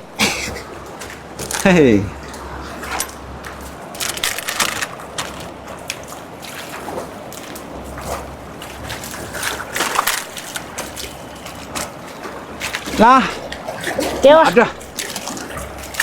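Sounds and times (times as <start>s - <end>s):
stream water trickling: 0.0s - 16.0s.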